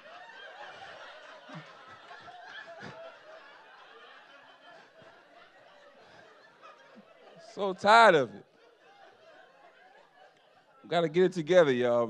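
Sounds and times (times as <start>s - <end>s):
audience chuckling and laughing: 0.0s - 12.0s.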